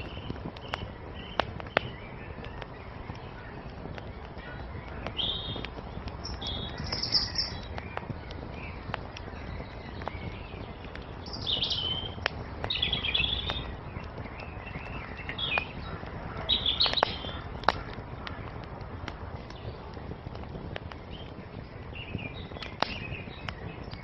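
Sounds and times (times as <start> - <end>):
songbirds chirping: 0.0 - 24.0
wood fire crackling and popping: 0.0 - 24.0.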